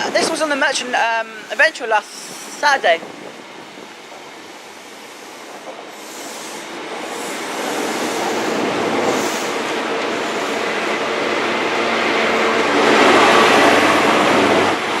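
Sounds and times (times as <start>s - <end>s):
train rail noise: 0.0s - 15.0s.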